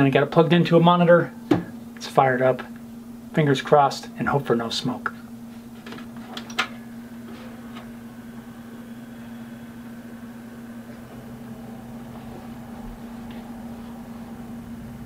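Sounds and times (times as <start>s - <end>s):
computer fans humming: 0.0s - 15.0s.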